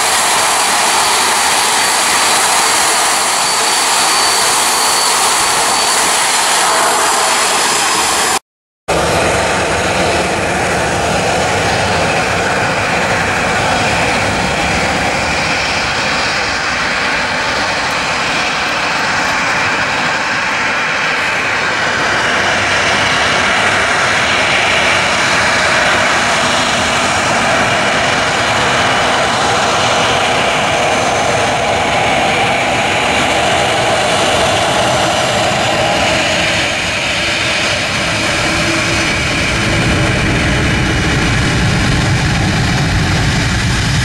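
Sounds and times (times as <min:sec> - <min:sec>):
jet engines rushing: 0:00.0 - 0:44.0.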